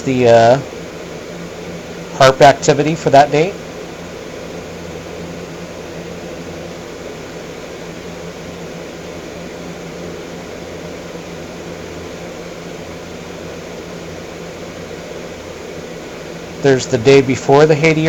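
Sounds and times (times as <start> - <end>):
fan-like hum and hiss: 0.0 - 18.0
low steady hum: 0.0 - 18.0.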